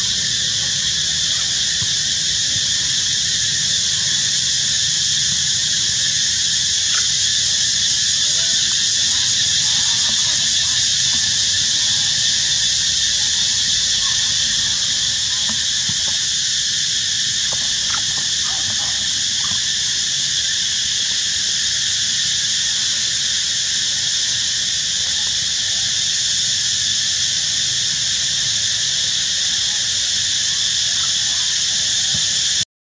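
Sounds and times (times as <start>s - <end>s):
insect chorus droning: 0.0s - 32.6s.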